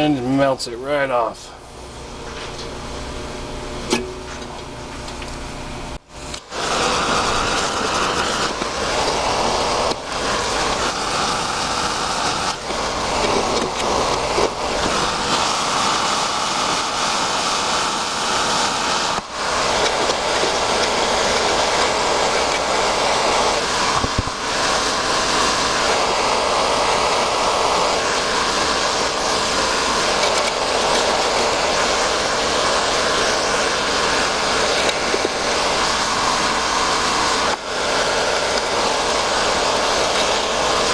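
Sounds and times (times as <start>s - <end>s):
gas torch flame roaring: 0.0s - 40.9s.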